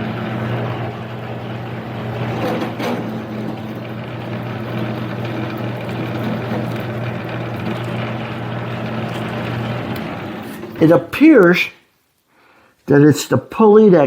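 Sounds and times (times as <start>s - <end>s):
lathe motor humming: 0.0s - 11.7s.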